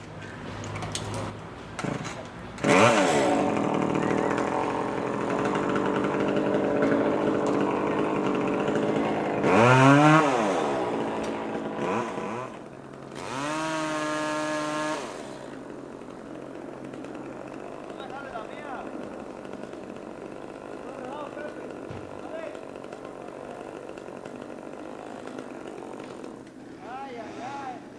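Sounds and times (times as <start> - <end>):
chainsaw idling and revving: 0.6 - 27.9.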